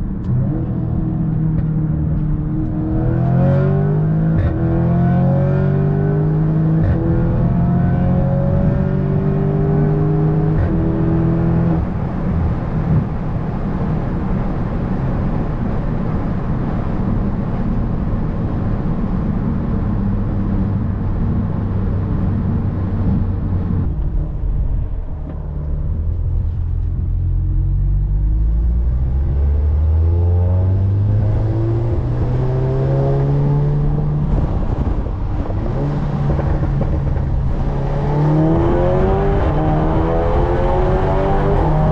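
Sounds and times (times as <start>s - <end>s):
car engine accelerating: 0.0s - 15.5s, 16.3s - 41.9s.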